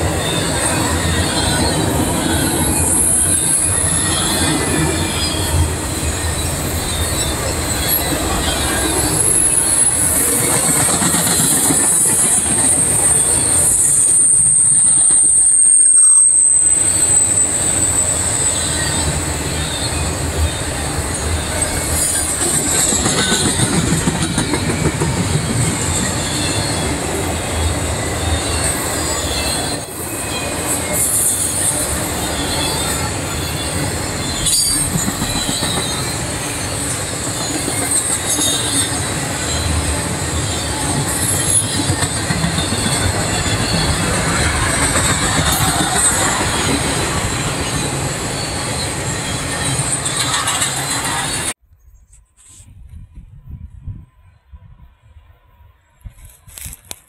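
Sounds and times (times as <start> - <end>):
train wheels rumbling and clacking: 0.0 - 15.6, 16.7 - 51.6
high wheel squeal: 0.0 - 51.6.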